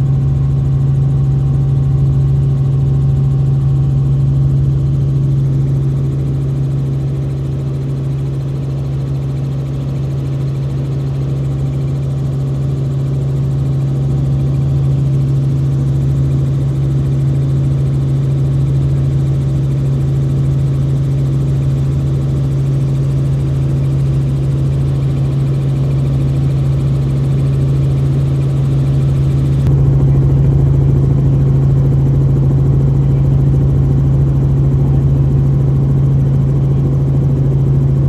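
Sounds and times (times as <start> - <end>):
helicopter drone inside cabin: 0.0 - 38.0.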